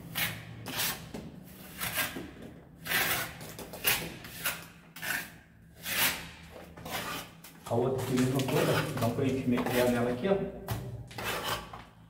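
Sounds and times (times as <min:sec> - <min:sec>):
trowel scraping mortar: 0:00.1 - 0:07.4, 0:08.2 - 0:10.2, 0:11.1 - 0:11.9.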